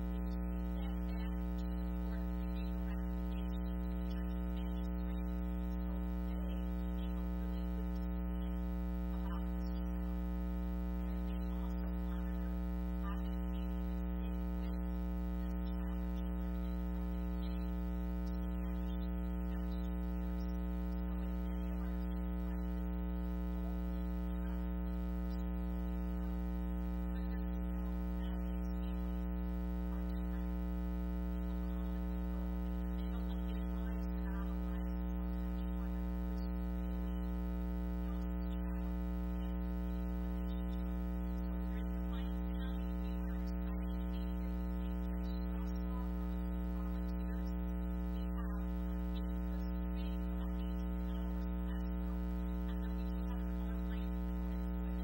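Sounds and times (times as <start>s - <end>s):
electrical mains hum: 0.0s - 55.0s
voice at microphone: 0.0s - 55.0s.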